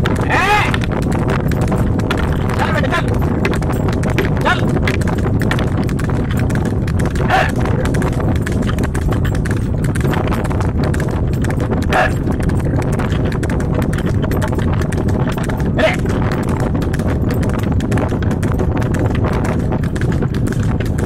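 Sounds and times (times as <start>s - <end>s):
cart clatter and hooves: 0.0s - 21.0s
low rumble of cart: 0.0s - 21.0s.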